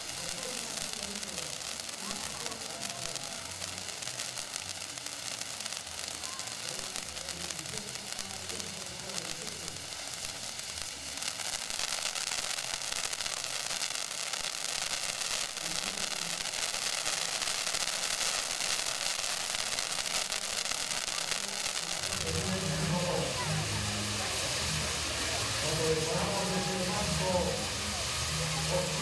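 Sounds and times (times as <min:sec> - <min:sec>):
firework sizzling hiss and crackle: 0:00.0 - 0:29.0.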